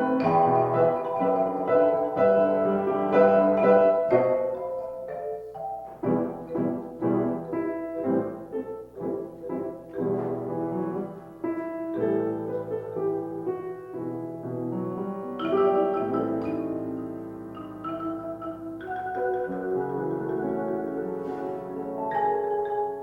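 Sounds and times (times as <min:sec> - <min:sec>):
piano notes and chords: 0:00.0 - 0:23.0.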